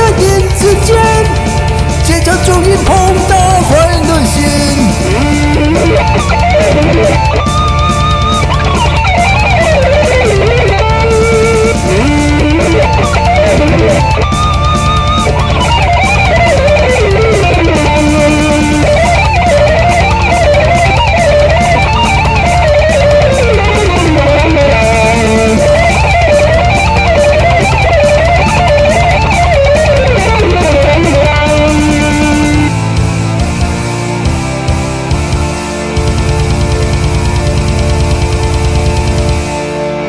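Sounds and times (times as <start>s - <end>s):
bass guitar: 0.0s - 40.0s
drums: 0.0s - 40.0s
lead electric guitar solo: 0.0s - 40.0s.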